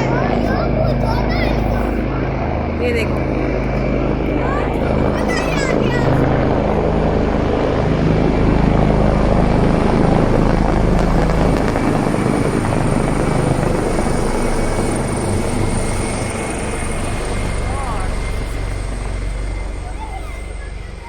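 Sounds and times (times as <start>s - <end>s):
helicopter rotor thrum: 0.0s - 21.0s
turbine whine: 0.0s - 21.0s.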